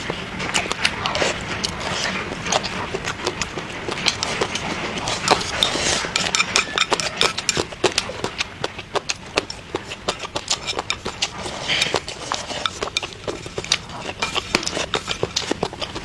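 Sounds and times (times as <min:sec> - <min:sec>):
close chewing and lip-smacking: 0:00.0 - 0:16.0.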